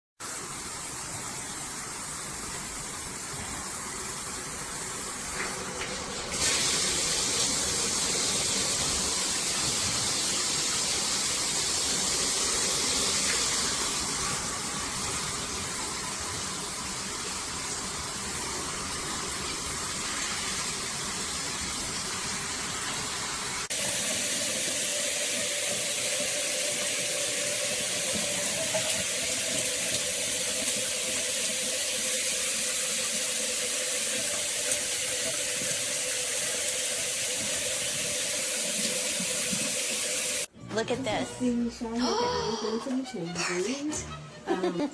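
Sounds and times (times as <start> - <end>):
shower water spraying: 0.2 - 40.5.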